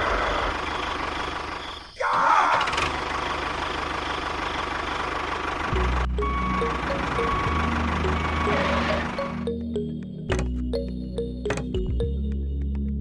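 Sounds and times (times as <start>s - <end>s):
tractor engine idling: 0.0s - 2.0s, 2.6s - 12.1s.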